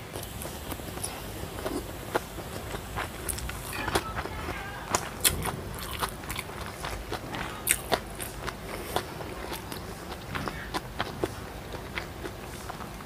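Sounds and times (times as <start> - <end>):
chewing noodles: 0.1 - 4.3, 4.9 - 13.0.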